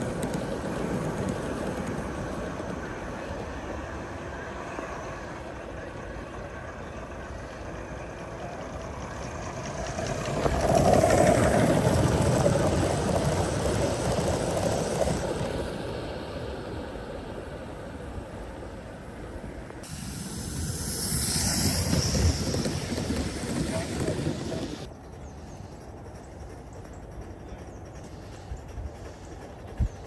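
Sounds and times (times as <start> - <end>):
model train running on track: 0.0 - 30.0.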